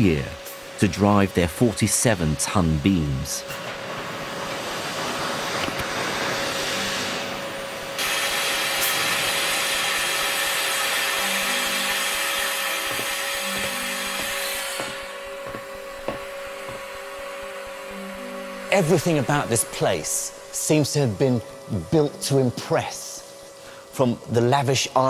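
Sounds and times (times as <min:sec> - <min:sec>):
steam hissing: 0:00.0 - 0:25.0.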